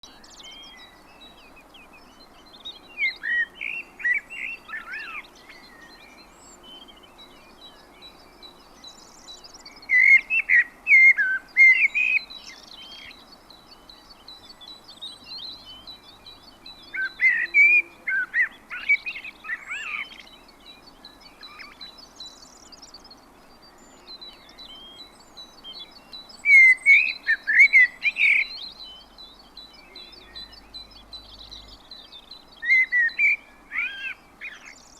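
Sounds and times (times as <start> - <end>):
faint background hiss: 0.0 - 34.9
songbird singing warbled phrases: 0.0 - 34.9.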